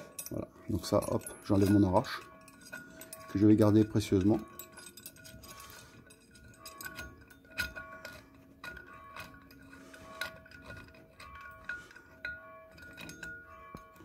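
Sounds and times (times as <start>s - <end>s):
metal clinks: 0.0s - 14.0s
metal scraping: 0.0s - 14.0s.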